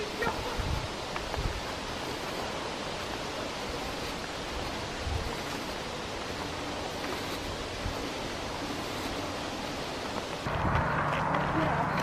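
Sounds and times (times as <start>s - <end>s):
low wind rumble on microphone: 0.0s - 12.0s
rustling leaves: 0.0s - 12.0s
wind: 0.0s - 12.0s.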